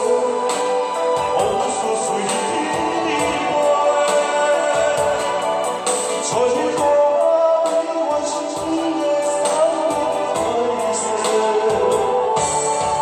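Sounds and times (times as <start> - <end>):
backing music with drum beat: 0.0 - 13.0
man singing into a microphone: 0.0 - 13.0.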